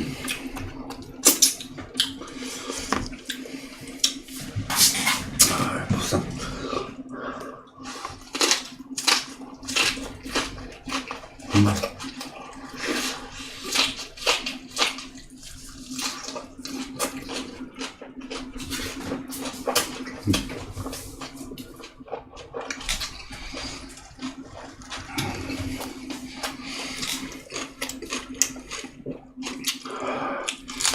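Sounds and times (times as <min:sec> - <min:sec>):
wet chewing and mouth smacks: 0:00.2 - 0:05.5, 0:07.8 - 0:30.9.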